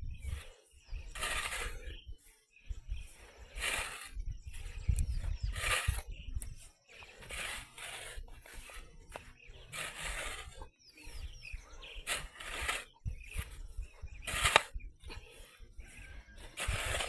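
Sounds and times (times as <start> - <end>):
bird chirping: 0.0 - 17.0
scraping and rustling: 0.2 - 2.0, 3.1 - 17.0.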